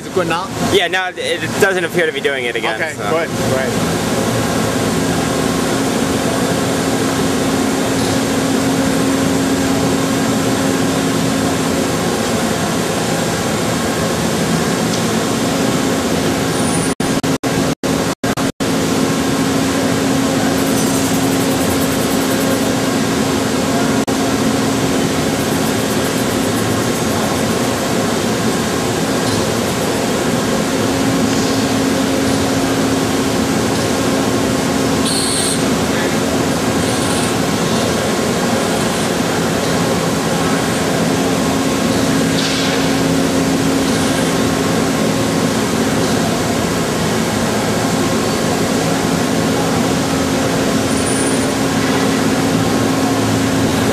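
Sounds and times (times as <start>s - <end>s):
lathe hum and whine: 0.0s - 53.9s.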